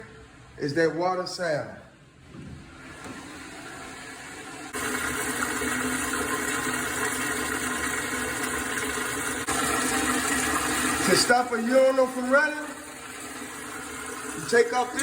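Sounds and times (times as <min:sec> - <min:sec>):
urinal flushing: 0:02.6 - 0:15.0.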